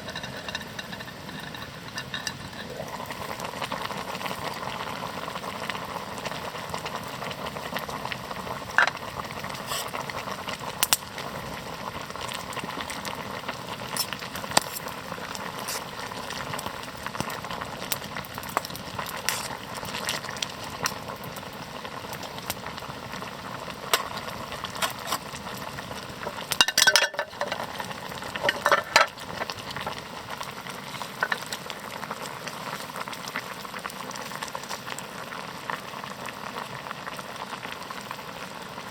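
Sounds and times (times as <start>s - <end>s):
campfire sizzling crackle: 0.0s - 38.9s.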